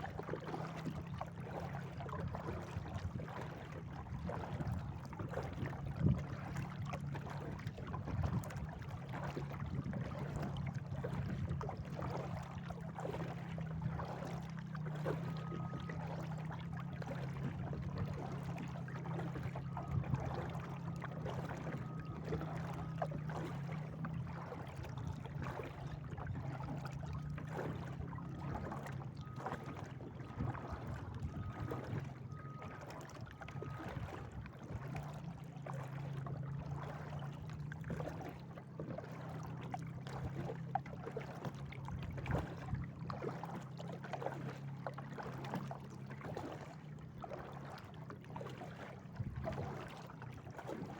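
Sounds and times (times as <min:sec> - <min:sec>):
water splashing from paddling: 0:00.0 - 0:50.9.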